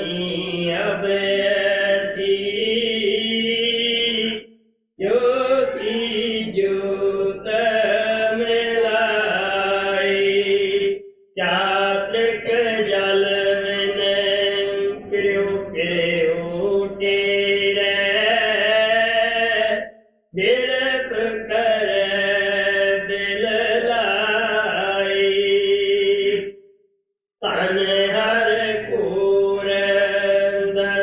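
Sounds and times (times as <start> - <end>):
man chanting in long held notes: 0.0 - 4.4, 5.0 - 26.4.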